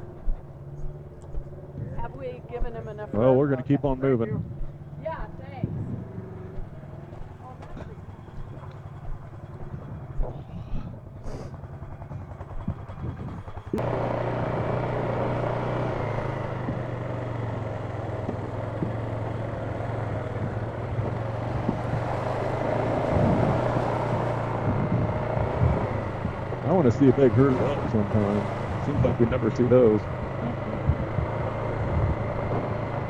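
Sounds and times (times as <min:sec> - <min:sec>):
atv engine running: 0:00.0 - 0:33.0
engine knocks: 0:00.0 - 0:33.0
trail noise: 0:00.0 - 0:33.0.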